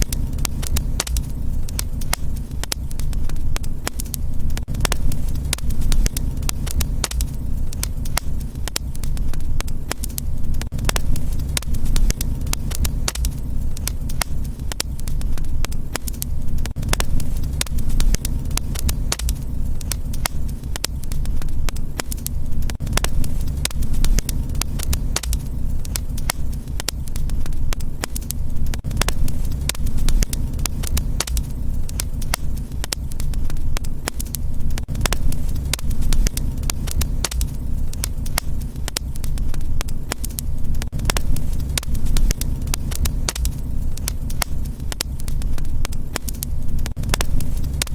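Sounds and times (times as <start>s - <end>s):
low fire rumble: 0.0s - 47.9s
wood fire crackling and popping: 0.0s - 47.9s.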